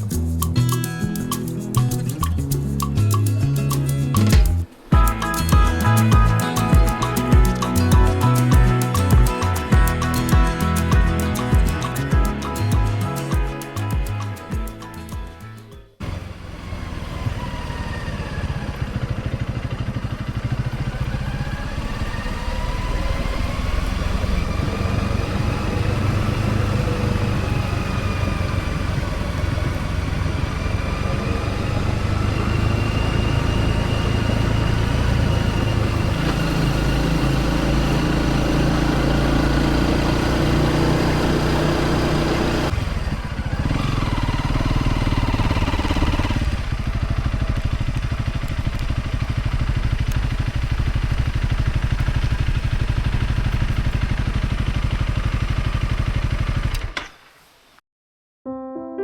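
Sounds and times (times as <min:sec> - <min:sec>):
motorcycle engine running: 0:03.9 - 0:57.0.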